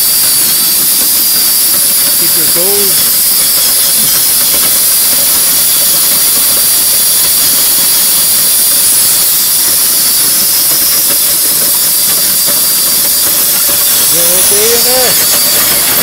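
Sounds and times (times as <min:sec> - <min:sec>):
auger running with loud hiss: 0:00.0 - 0:16.0.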